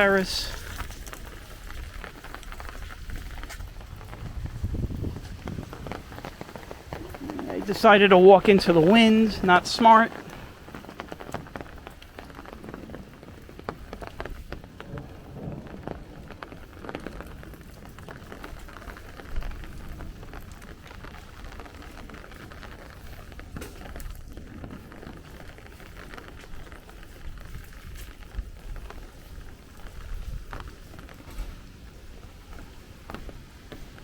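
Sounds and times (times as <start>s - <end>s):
gusty wind: 0.0s - 34.0s
heavy rain pattering: 0.0s - 34.0s.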